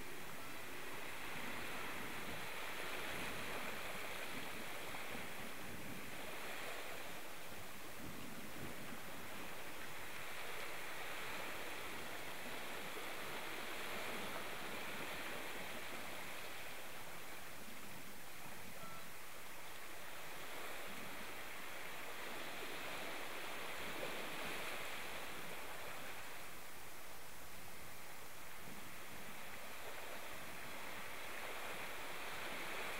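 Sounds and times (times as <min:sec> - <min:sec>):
rushing water: 0:00.0 - 0:32.9.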